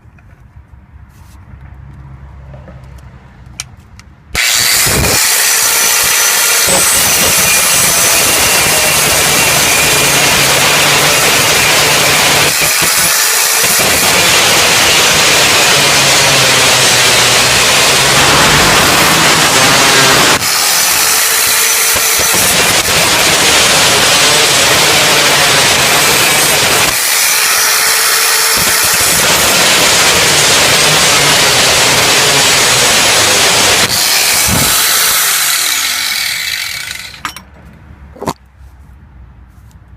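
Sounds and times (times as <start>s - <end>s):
power tool cutting steel pipe: 4.3s - 37.4s.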